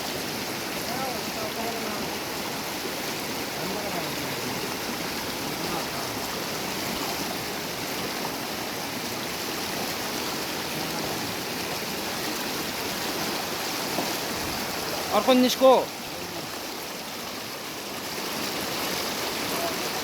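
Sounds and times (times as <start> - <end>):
river water rushing over stream bed: 0.0 - 20.0.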